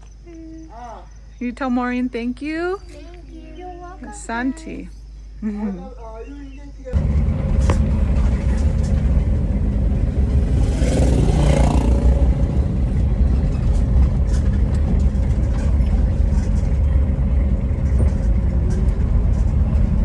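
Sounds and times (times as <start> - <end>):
car driving rumble: 0.0 - 5.2, 6.9 - 20.0.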